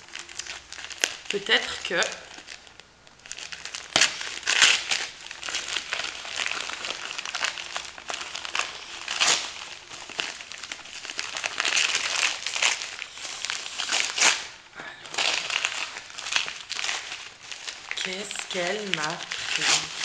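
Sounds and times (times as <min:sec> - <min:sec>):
wrapping paper crinkling and tearing: 0:00.0 - 0:20.0.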